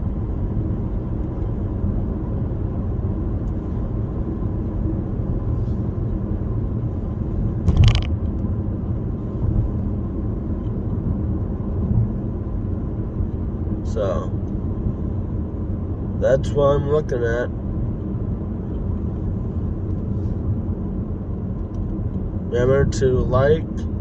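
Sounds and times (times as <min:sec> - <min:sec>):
car cabin road and engine rumble: 0:00.0 - 0:24.0.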